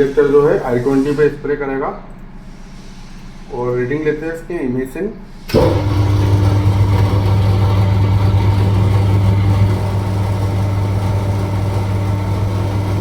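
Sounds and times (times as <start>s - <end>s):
high-pressure pump humming: 0.0s - 3.9s, 5.1s - 13.0s.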